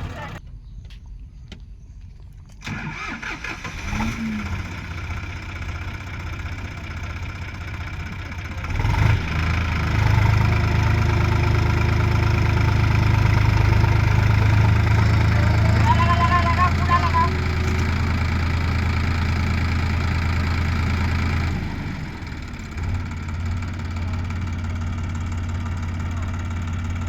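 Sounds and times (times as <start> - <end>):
heavy diesel engine revving: 2.7 - 27.0.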